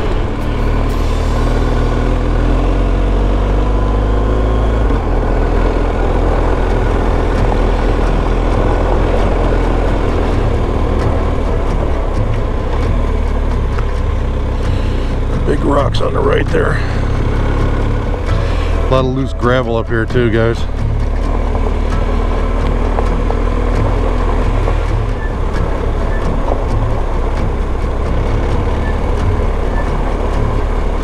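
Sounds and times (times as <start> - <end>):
motorcycle engine running: 0.0 - 31.0
wind rush and tyre noise: 0.0 - 31.0.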